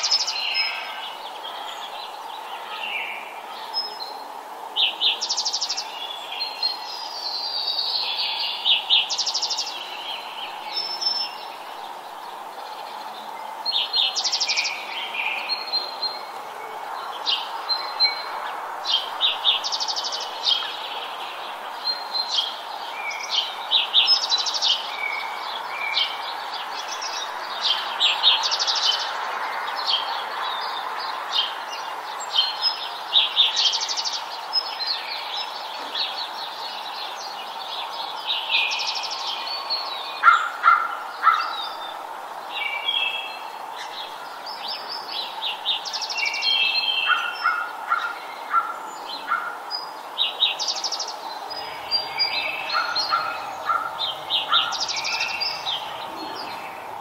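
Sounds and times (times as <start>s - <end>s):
background hiss: 0.0s - 57.0s
songbirds chirping: 0.0s - 57.0s.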